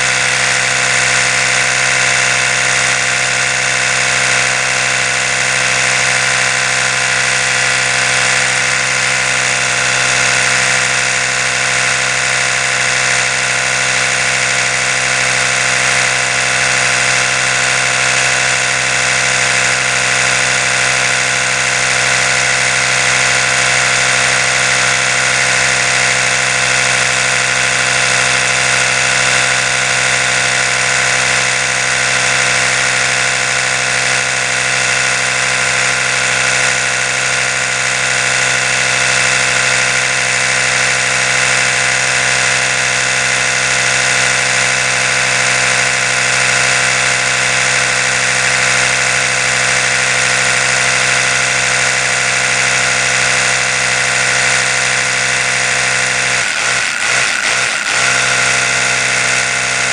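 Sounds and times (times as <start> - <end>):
electric toothbrush motor buzz: 0.0 - 59.9.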